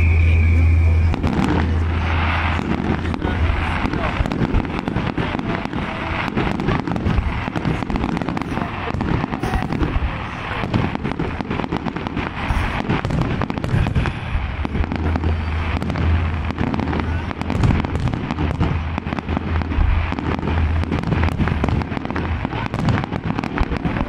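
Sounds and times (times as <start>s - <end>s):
low hum: 0.0s - 7.8s, 9.9s - 24.0s
fireworks bangs and crackles: 0.0s - 24.0s.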